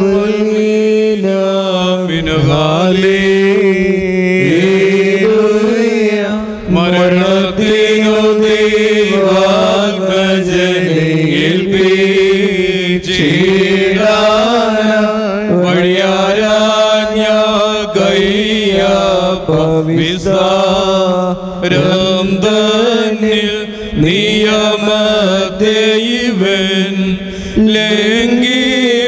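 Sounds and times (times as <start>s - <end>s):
hymn chanted on sustained notes: 0.0s - 29.0s.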